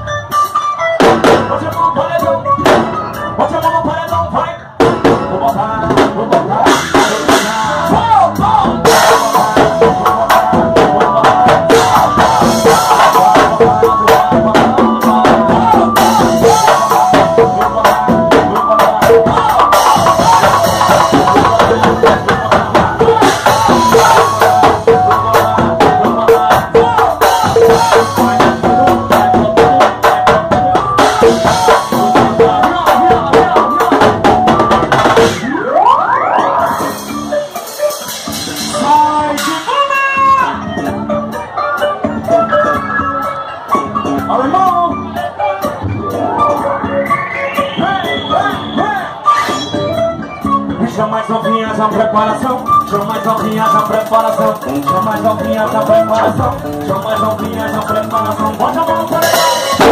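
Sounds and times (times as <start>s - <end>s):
band playing instrumental: 0.0s - 59.9s
drum kit playing a groove: 0.0s - 59.9s.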